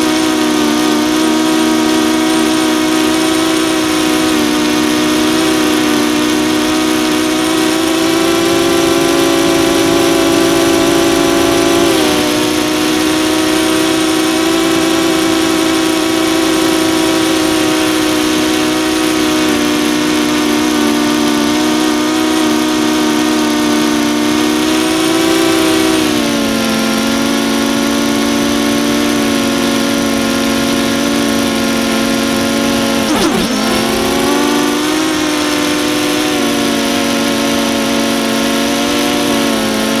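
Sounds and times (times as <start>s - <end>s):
drone propellers humming: 0.0s - 40.0s.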